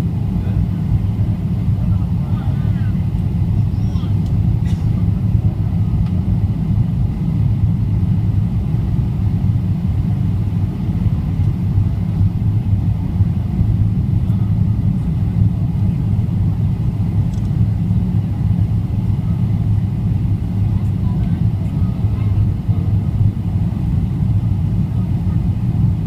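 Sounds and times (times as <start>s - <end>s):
airplane cabin rumble: 0.0s - 26.0s.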